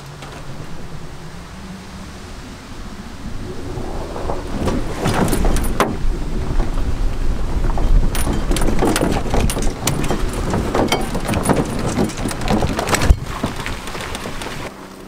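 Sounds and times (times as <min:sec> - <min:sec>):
boat trailer rattling on gravel: 0:00.0 - 0:15.0
wind rumble on microphone: 0:00.0 - 0:15.0.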